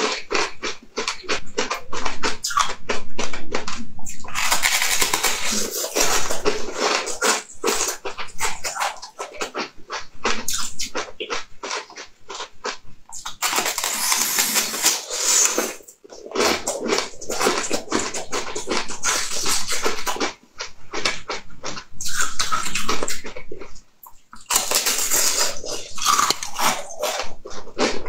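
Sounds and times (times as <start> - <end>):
person biting and chewing: 0.0 - 28.0.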